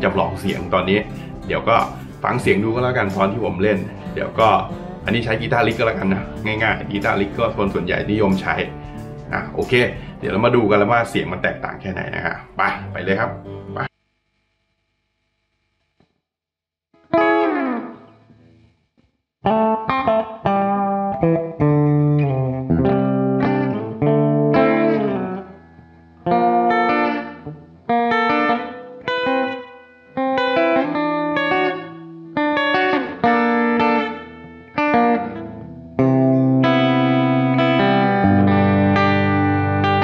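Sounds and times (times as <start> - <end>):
electric guitar chords strummed: 0.0 - 13.9, 17.0 - 18.6, 19.4 - 40.0.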